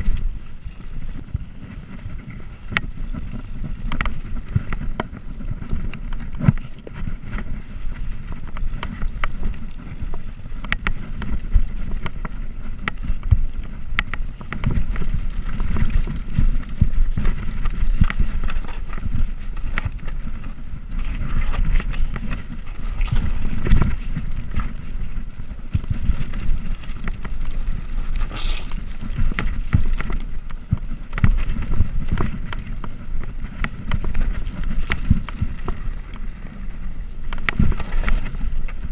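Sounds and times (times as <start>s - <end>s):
bicycle knocks and rattles: 0.0s - 38.9s
wind buffeting microphone: 0.0s - 38.9s.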